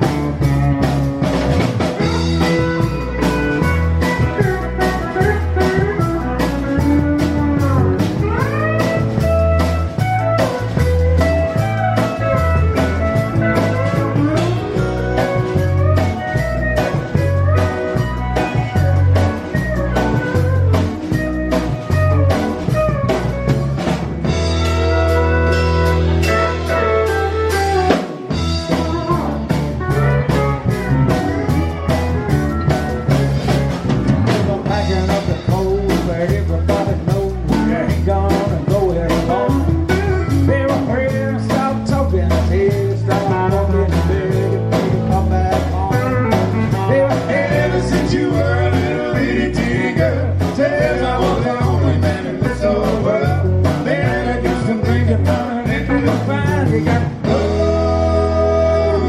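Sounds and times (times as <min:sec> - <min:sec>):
live country band playing: 0:00.0 - 0:59.0.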